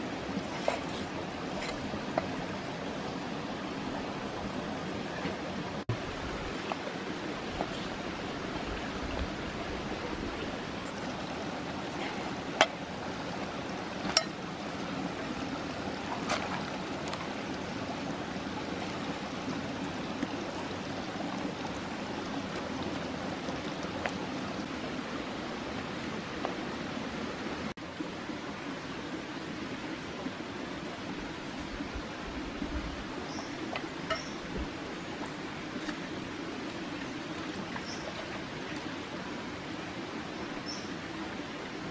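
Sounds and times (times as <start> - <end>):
stream running over rocks: 0.0 - 41.9.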